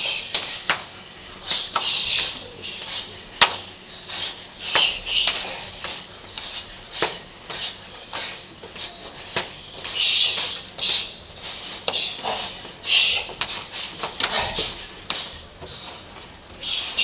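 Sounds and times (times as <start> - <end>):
short hissing breaths: 1.4 - 3.2, 3.9 - 17.0.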